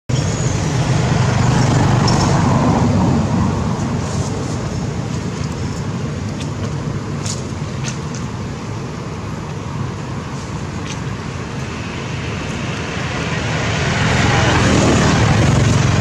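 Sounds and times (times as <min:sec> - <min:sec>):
low outdoor rumble: 0:00.1 - 0:16.0.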